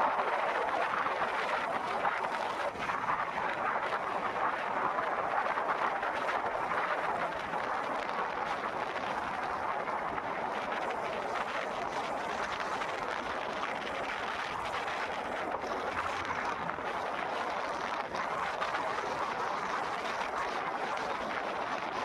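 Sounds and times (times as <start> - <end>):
wind noise: 0.0 - 22.0.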